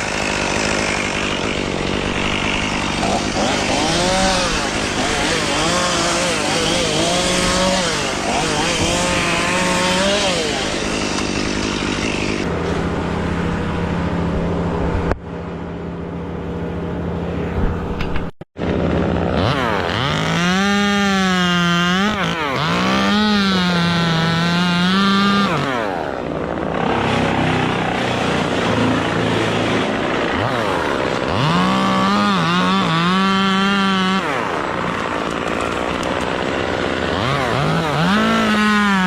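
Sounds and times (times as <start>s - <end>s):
chainsaw engine running: 0.0s - 16.3s, 18.6s - 39.0s.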